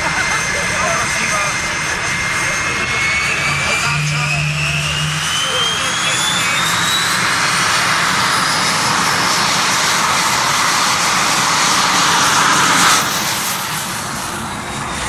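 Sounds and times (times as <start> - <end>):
jet engine rushing with high whine: 0.0 - 15.0.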